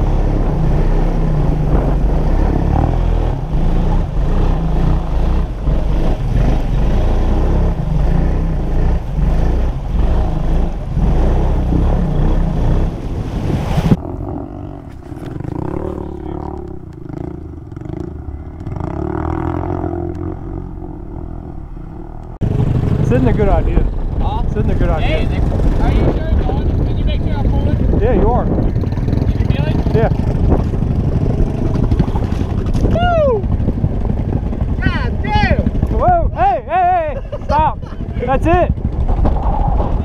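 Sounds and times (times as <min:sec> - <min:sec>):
quad bike engine running hard: 0:00.0 - 0:13.0, 0:13.9 - 0:21.6, 0:22.4 - 0:40.0
distant quad bike engines: 0:00.0 - 0:40.0.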